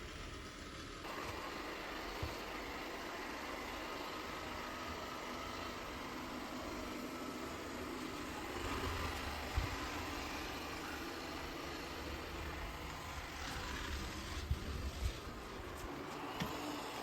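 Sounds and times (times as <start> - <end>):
robot vacuum whirring: 1.0 - 17.0.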